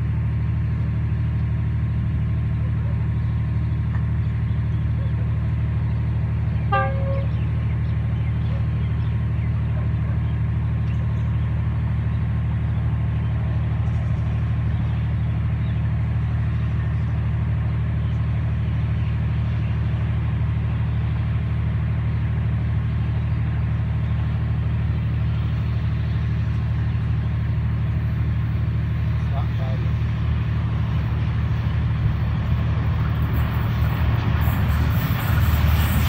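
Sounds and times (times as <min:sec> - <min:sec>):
diesel train engine idling: 0:00.0 - 0:36.0.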